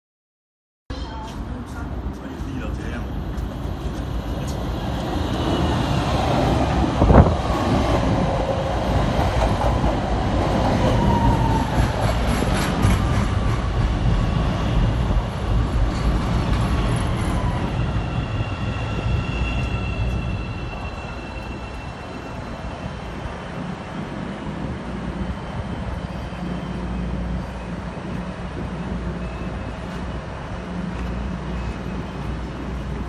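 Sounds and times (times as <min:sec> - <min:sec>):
train wheels rumbling on rail: 0:00.9 - 0:33.0.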